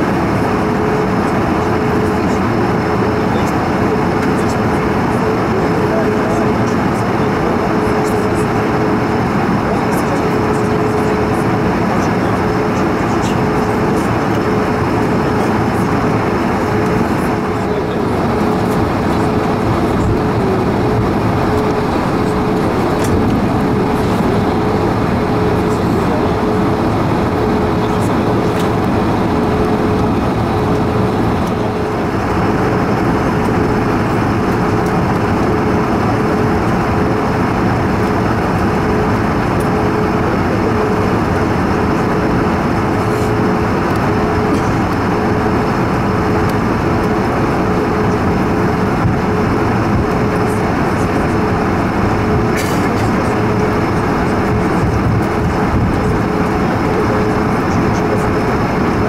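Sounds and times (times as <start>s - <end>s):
airplane cabin noise taxiing: 0.0s - 59.0s
jet engine hum: 0.0s - 59.0s.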